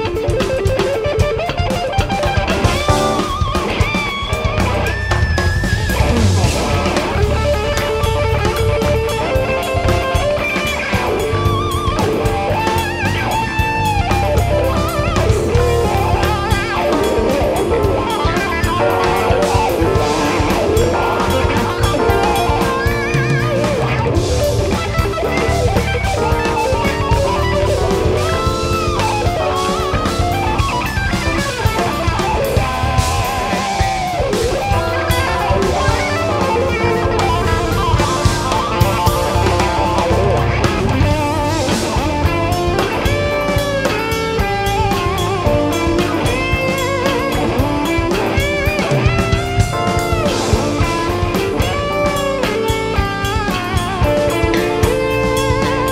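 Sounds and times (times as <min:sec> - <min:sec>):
drum kit: 0:00.0 - 0:55.9
electric bass guitar: 0:00.0 - 0:55.9
electric guitar lead lines: 0:00.0 - 0:55.9.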